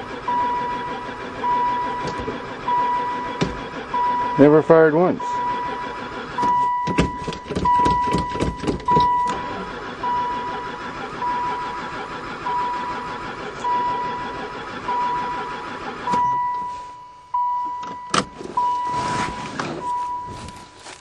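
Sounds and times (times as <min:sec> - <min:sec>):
engine cranking on starter: 0:00.0 - 0:21.0
beeping tone: 0:00.3 - 0:11.8, 0:12.5 - 0:15.5, 0:16.1 - 0:20.7.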